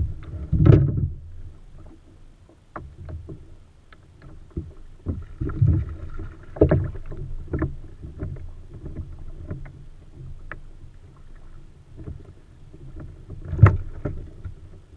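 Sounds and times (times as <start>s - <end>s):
water lapping against hull: 0.0s - 14.9s.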